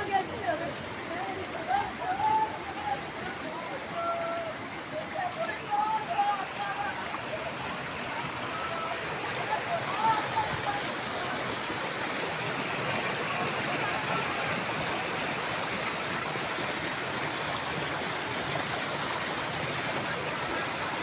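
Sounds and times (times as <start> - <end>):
flood water rushing: 0.0 - 21.0.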